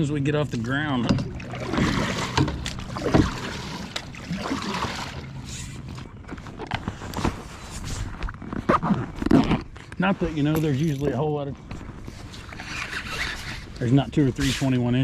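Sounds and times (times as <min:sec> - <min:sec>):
water and paddle noise: 0:00.0 - 0:15.0
knocks and clicks against hull: 0:00.8 - 0:13.8.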